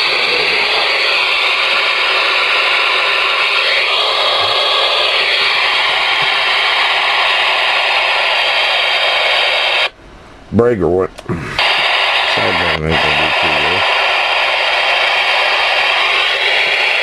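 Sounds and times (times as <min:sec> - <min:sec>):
radio static: 0:00.0 - 0:09.9, 0:11.2 - 0:17.0.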